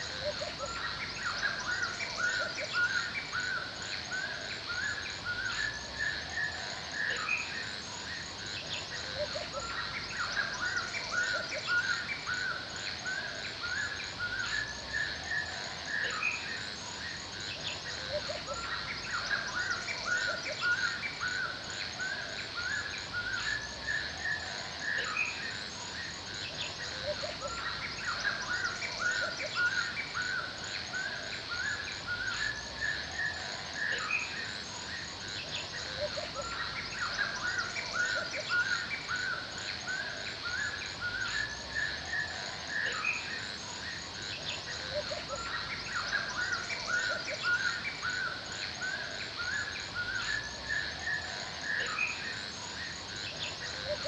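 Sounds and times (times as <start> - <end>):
birds chirping and calling: 0.0 - 54.0
high insect hum: 0.0 - 54.0.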